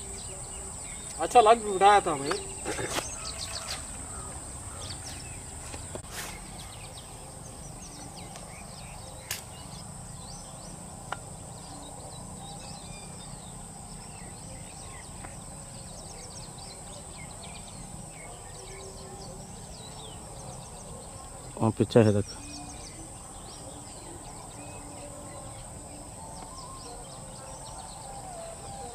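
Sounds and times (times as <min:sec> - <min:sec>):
bird chirps: 0:00.0 - 0:28.9
high-pitched insect drone: 0:00.0 - 0:28.9.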